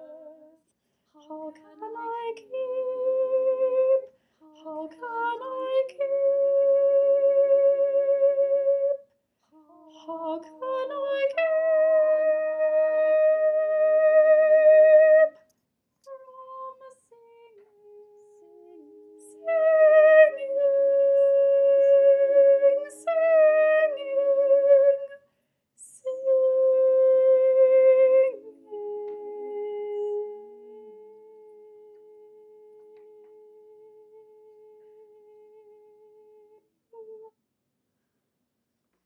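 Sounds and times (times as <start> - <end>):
woman singing with vibrato: 0.0 - 0.5, 1.2 - 9.0, 9.6 - 15.3, 16.1 - 25.2, 25.8 - 37.3.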